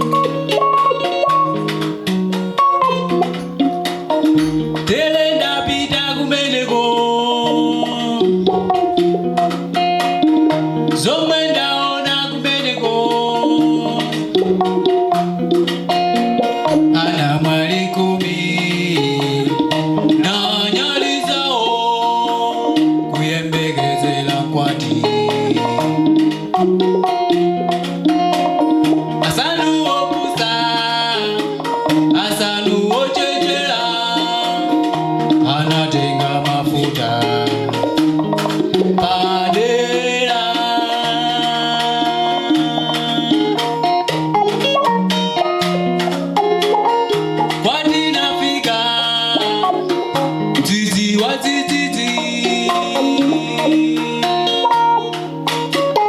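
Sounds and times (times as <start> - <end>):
drums and percussion: 0.0 - 56.0
live band playing gospel song: 0.0 - 56.0
plucked guitar: 0.0 - 56.0
sliding lead melody: 0.0 - 56.0.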